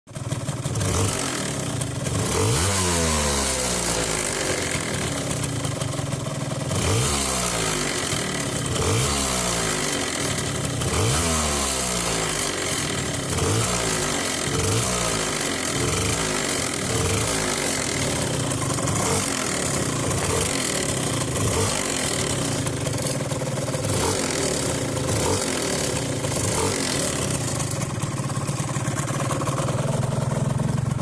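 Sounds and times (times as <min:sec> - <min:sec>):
scooter engine revving: 0:00.1 - 0:31.0.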